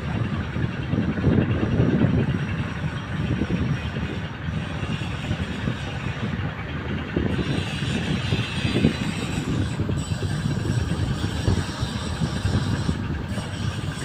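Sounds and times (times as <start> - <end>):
boat diesel engine chugging: 0.0 - 14.0.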